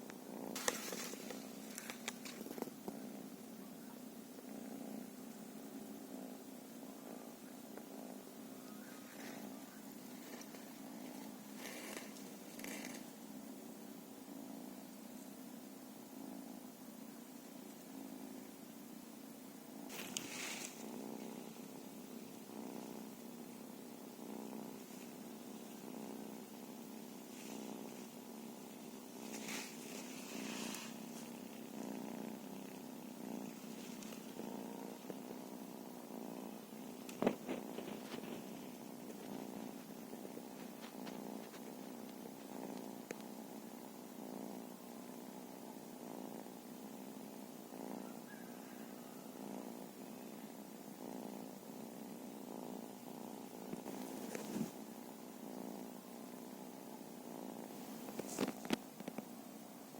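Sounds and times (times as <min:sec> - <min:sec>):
soft rustle: 0:00.0 - 0:13.7, 0:19.7 - 0:47.0, 0:52.6 - 0:59.9
cat purring: 0:00.0 - 0:59.9.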